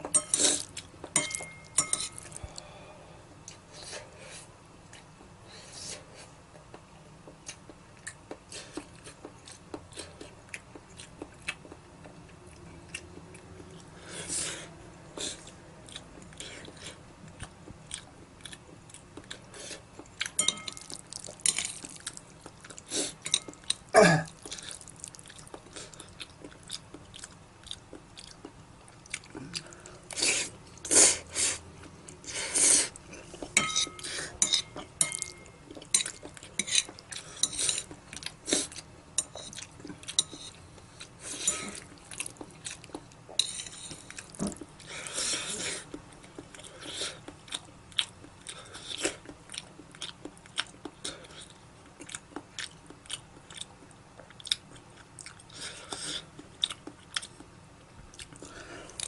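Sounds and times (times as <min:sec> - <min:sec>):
close-up chewing: 0:06.7 - 0:30.9, 0:31.8 - 0:59.0.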